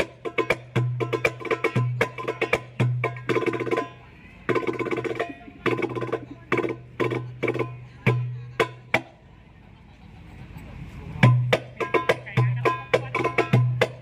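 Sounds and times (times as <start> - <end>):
frame drums: 0.0 - 9.2, 11.1 - 14.0.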